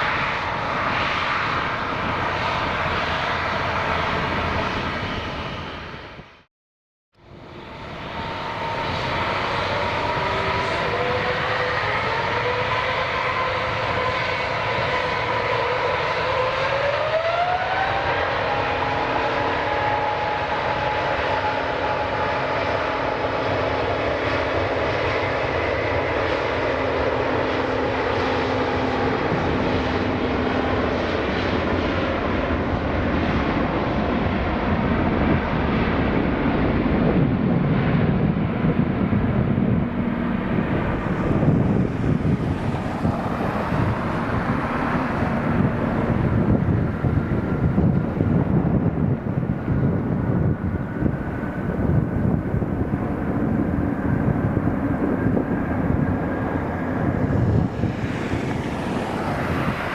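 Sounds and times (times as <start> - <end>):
jet engine whine rising: 0.0 - 6.5, 7.2 - 59.9
jet engines running: 0.0 - 6.5, 7.2 - 59.9.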